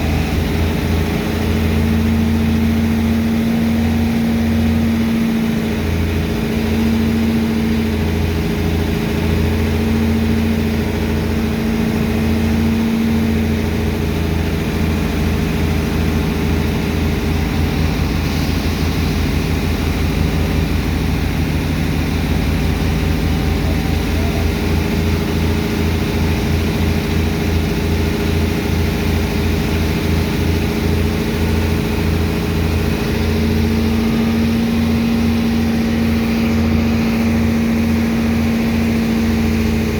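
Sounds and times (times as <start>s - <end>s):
heavy diesel pump engine throbbing: 0.0s - 39.9s.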